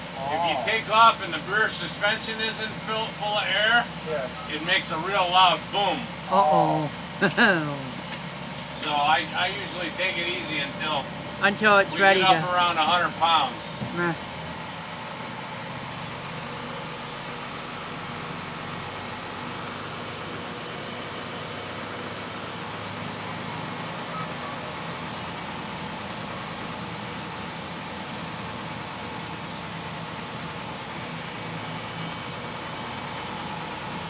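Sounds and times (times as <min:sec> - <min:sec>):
bus engine running: 0:00.0 - 0:34.0.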